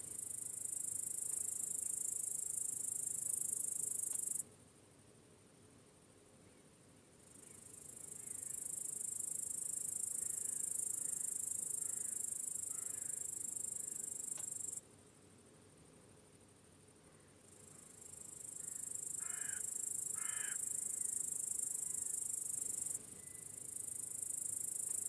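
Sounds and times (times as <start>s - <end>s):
crickets chirping trill: 0.0s - 25.0s.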